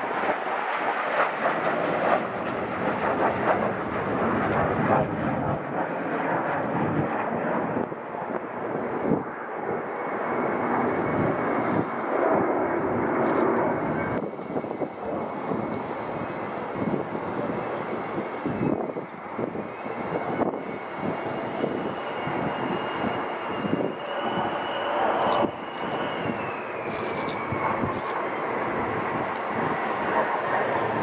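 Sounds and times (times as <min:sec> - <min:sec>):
high jet whine: 0:00.0 - 0:31.0
jet engines rushing: 0:00.0 - 0:31.0.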